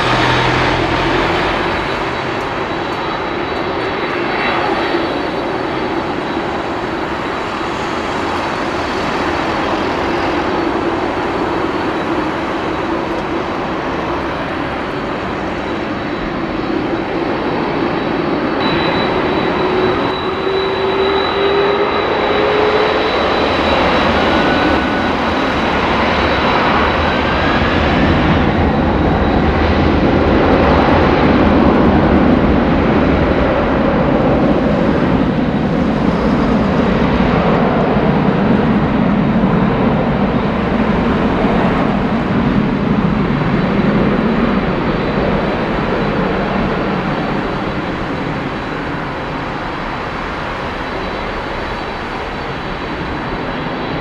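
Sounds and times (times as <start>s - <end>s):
jet engines taxiing: 0.0s - 54.0s.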